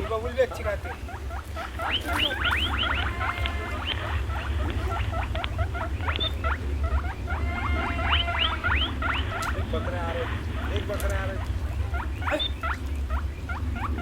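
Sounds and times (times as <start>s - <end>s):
small animals squeaking: 0.0s - 14.0s
steady low hum: 0.0s - 14.0s.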